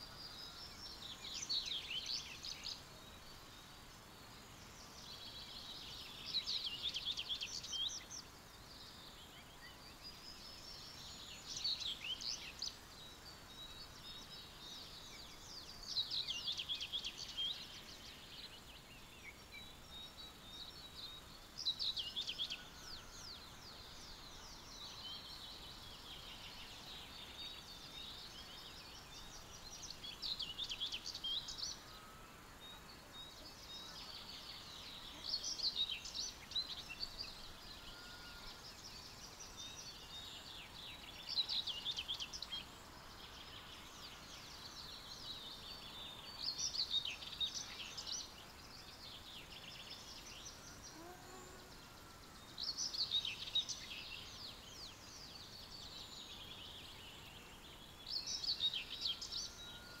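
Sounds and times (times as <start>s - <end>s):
faint bird song: 0.0s - 60.0s
open-air hiss: 0.0s - 60.0s.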